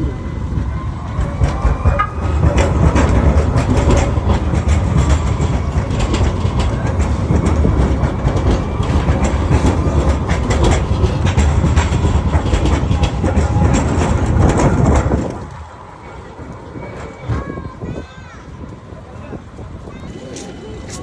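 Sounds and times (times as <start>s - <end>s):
tram rumbling on rails: 0.0s - 21.0s
wheels clicking and clacking: 0.4s - 21.0s.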